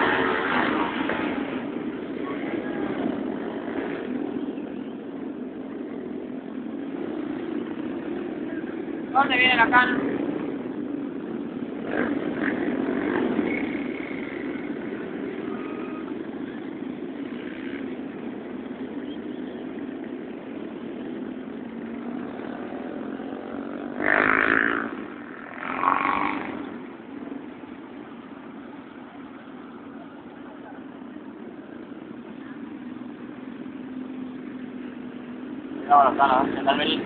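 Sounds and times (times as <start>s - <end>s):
motorcycle engines running: 0.0s - 37.0s.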